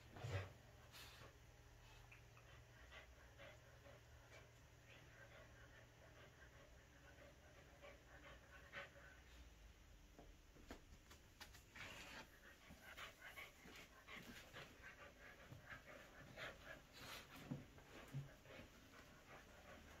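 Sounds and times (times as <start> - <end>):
dog panting and snuffling: 0.0 - 9.6, 11.5 - 20.0.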